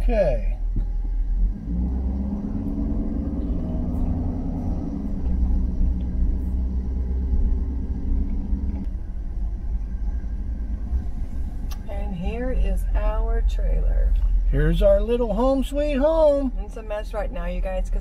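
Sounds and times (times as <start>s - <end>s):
car engine hum: 0.0s - 18.0s
low road rumble: 0.0s - 18.0s.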